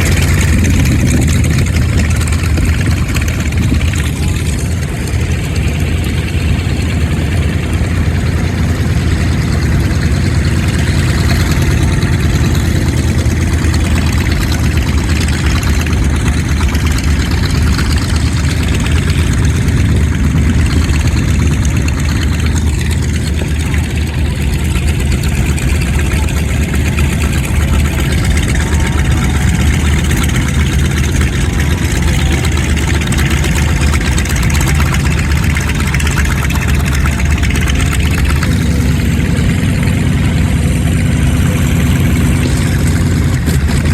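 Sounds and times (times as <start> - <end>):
propeller aircraft engines droning: 0.0 - 43.9.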